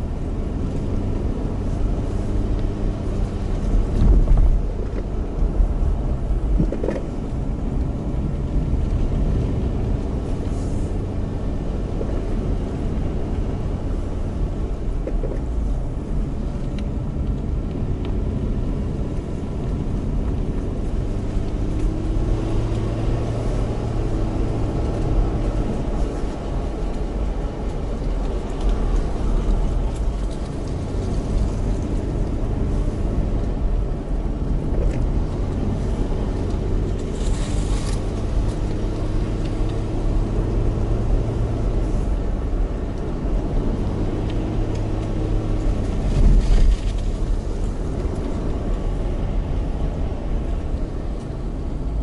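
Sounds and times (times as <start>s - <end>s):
car engine pulling uphill: 0.0s - 52.0s
tyre and road rumble: 0.0s - 52.0s.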